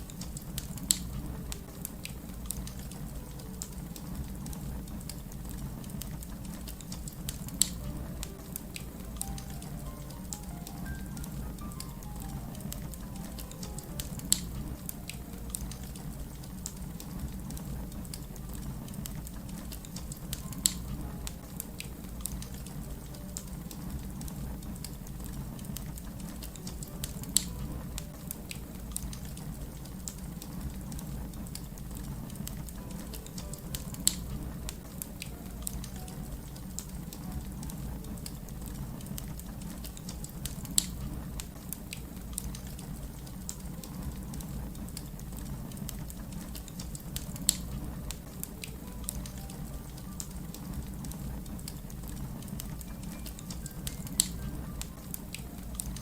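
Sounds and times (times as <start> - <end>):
fire crackling: 0.0 - 56.0
low fire rumble: 0.0 - 56.0.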